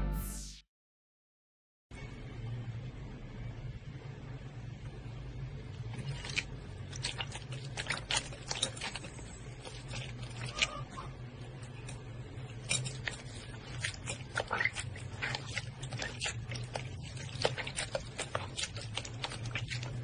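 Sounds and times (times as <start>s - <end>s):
low steady hum: 1.9s - 20.0s.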